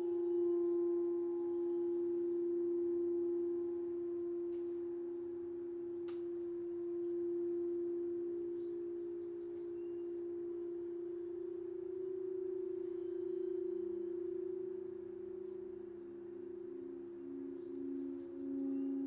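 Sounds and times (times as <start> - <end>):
crystal singing bowls ringing: 0.0 - 19.0.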